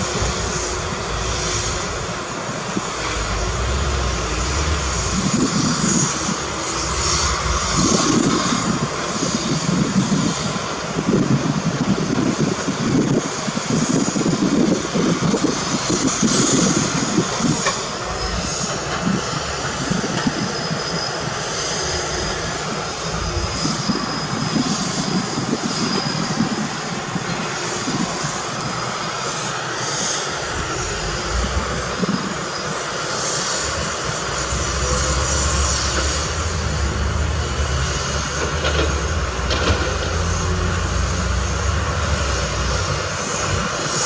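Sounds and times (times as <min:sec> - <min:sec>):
heavy machinery diesel engines: 0:00.0 - 0:44.0.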